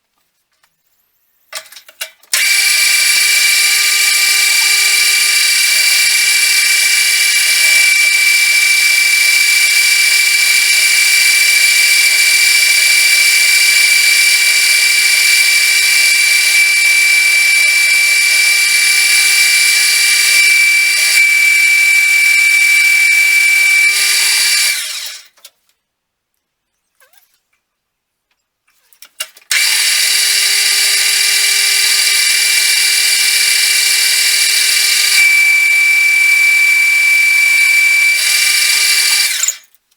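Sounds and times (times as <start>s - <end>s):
metal lathe whining: 2.4s - 25.2s, 29.5s - 39.6s.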